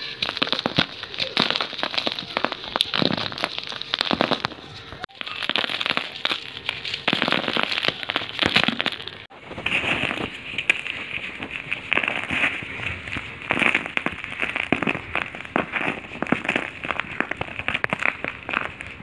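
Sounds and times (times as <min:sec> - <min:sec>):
dry clay balls crumbled by hand: 0:00.0 - 0:19.0.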